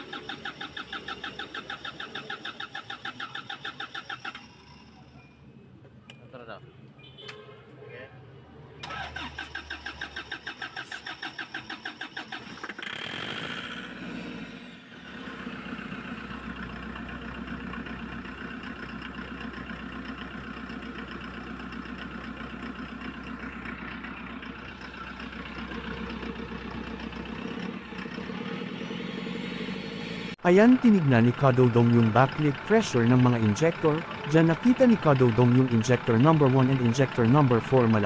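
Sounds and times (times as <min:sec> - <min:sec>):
diesel engine running: 0:00.0 - 0:05.9, 0:08.8 - 0:38.0
diesel engine cranking: 0:00.0 - 0:06.0, 0:08.8 - 0:38.0.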